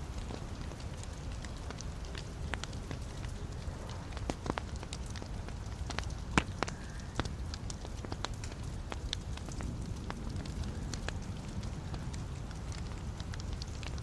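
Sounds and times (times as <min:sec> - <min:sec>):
wood fire crackling in fireplace: 0:00.0 - 0:14.0.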